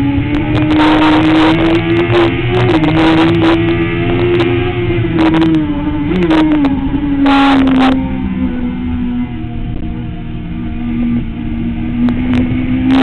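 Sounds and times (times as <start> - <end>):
motorcycle engine at high revs: 0.0 - 13.0
wind noise on microphone: 0.0 - 13.0.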